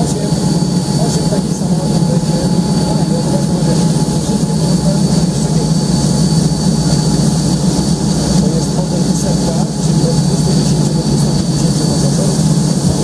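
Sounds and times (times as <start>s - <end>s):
jet engine high whine: 0.0s - 13.0s
jet engines low rumble: 0.0s - 13.0s.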